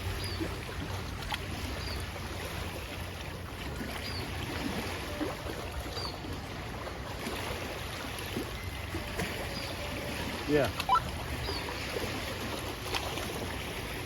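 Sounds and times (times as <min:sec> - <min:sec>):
water noise: 0:00.0 - 0:14.0
wind: 0:00.0 - 0:14.0.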